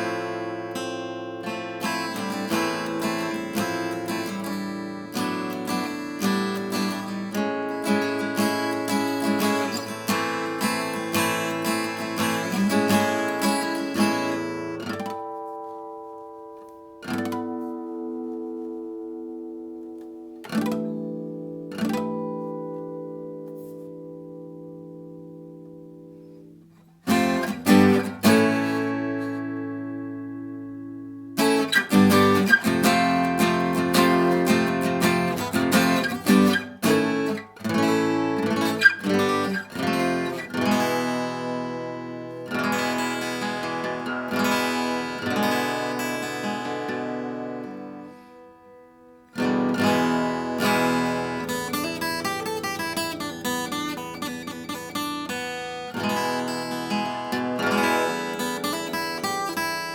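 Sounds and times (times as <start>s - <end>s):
acoustic guitar strummed and picked: 0.0s - 59.9s.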